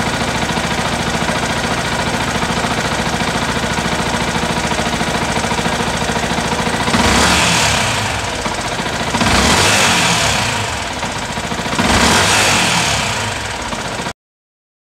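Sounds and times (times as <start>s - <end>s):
motorcycle engine idling and revving: 0.0s - 14.2s.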